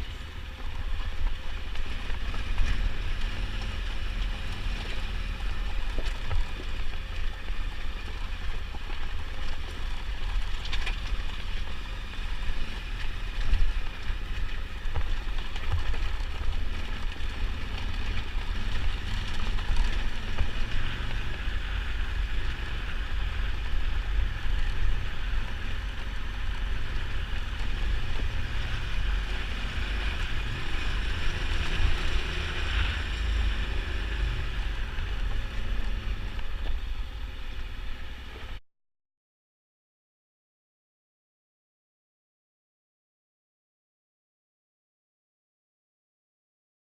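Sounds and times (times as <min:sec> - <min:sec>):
motorcycle engine running: 0:00.0 - 0:38.6.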